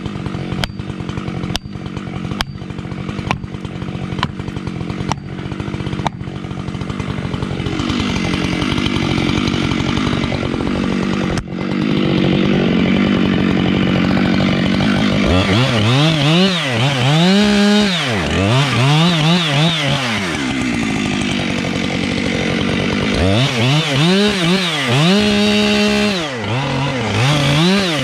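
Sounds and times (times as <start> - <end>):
chainsaw running: 0.0 - 28.0.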